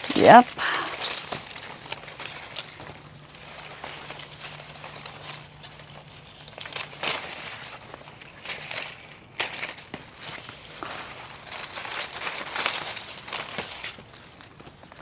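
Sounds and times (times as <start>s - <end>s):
leaves and branches rustling: 0.0s - 15.0s.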